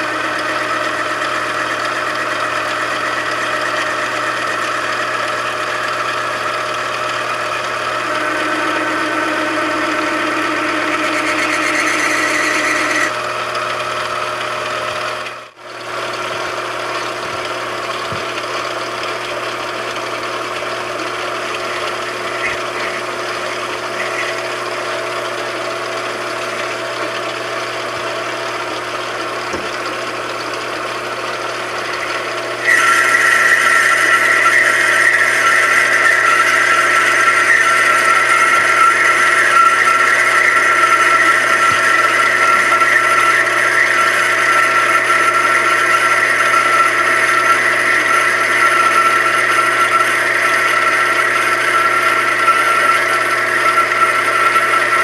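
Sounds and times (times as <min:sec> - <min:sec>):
high-pitched steady whine: 0:00.0 - 0:15.6, 0:18.6 - 0:55.0
machine tool humming: 0:00.0 - 0:55.0.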